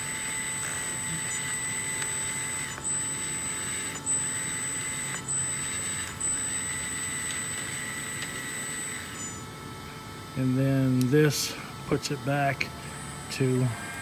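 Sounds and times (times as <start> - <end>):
electric drive whining: 0.0 - 14.0.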